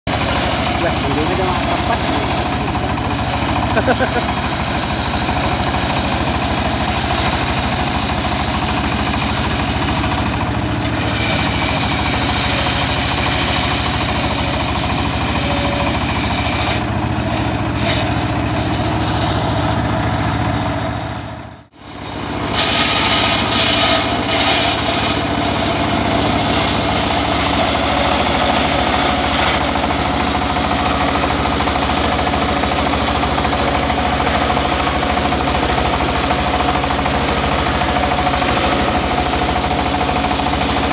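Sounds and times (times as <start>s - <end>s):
circular saw cutting wood: 0.1s - 40.9s.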